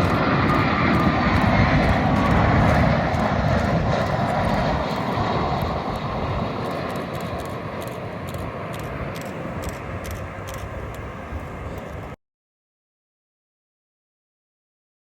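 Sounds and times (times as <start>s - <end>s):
jet engines rumbling: 0.0s - 12.2s.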